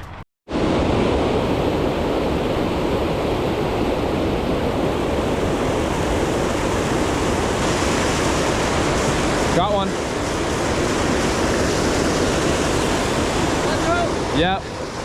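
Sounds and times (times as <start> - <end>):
creek water rushing: 0.5 - 15.0.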